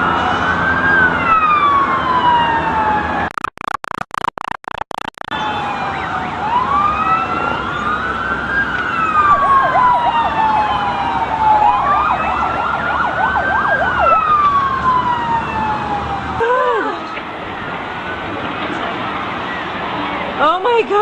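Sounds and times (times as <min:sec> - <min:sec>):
emergency sirens wailing: 0:00.0 - 0:03.4, 0:05.2 - 0:20.4.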